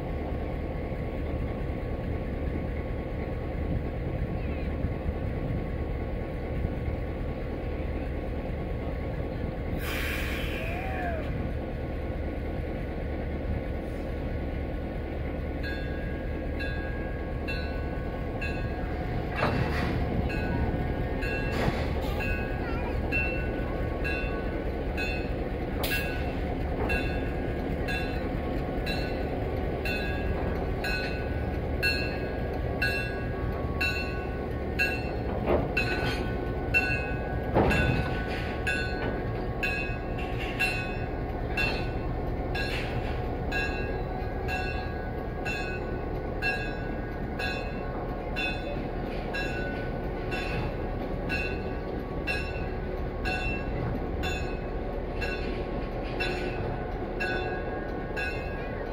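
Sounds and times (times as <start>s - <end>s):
electric locomotive rumbling: 0.0s - 58.9s.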